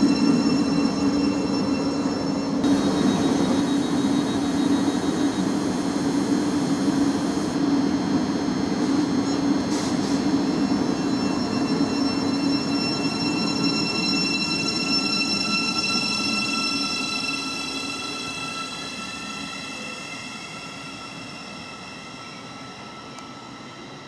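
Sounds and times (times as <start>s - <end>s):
electric train low hum: 0.0s - 24.0s
high whine: 0.0s - 24.0s.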